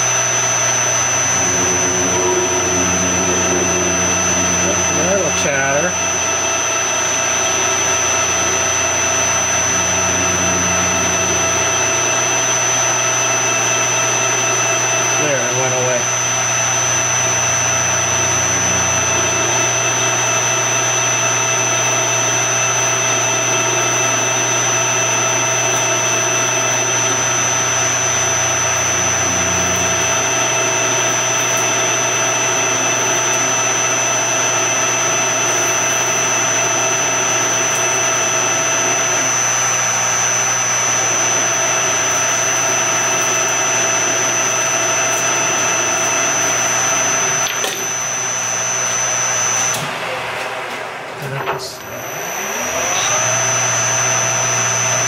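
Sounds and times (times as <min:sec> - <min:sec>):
metal lathe whining: 0:00.0 - 0:55.0.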